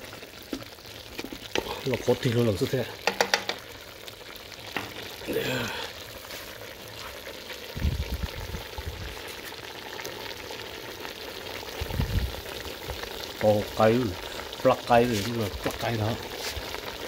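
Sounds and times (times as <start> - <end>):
pot sizzling on burner: 0.0 - 17.0.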